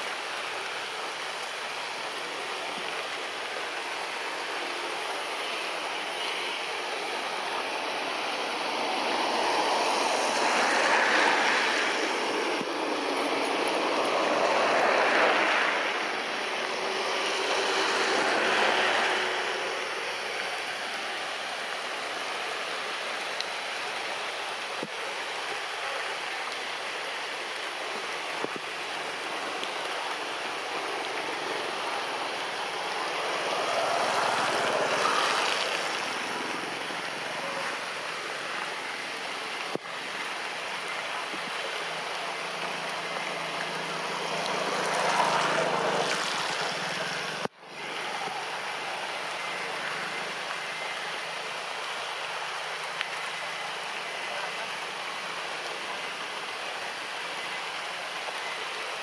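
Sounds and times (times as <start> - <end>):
rain on tree foliage: 0.0 - 59.0.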